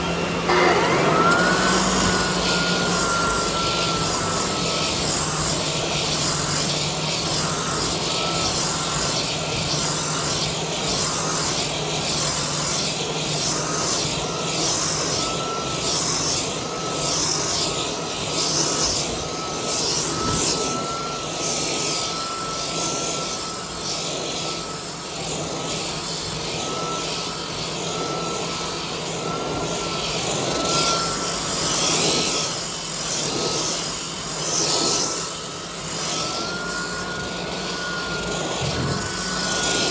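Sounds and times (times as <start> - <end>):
floor edger motor: 0.0 - 39.9
sanding grinding hiss: 1.2 - 39.9.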